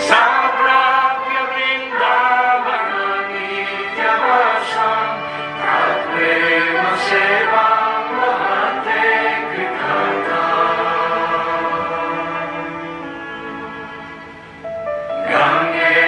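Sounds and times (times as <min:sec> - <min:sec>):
choir singing: 0:00.0 - 0:16.0
musical accompaniment: 0:00.0 - 0:16.0.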